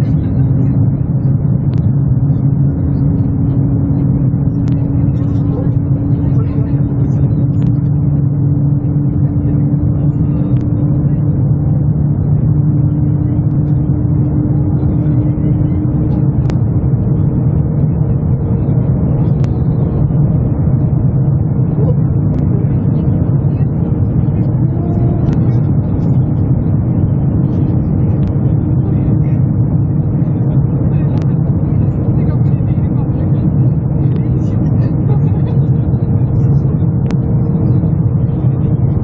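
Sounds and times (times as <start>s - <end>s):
humming tones: 0.0s - 39.0s
train cabin low rumble: 0.0s - 39.0s.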